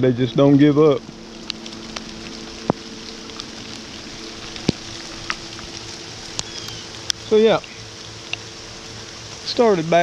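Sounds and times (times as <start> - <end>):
faint low hum: 0.0 - 10.0
rain falling steadily: 0.0 - 10.0
sharp taps of raindrops: 1.0 - 9.6.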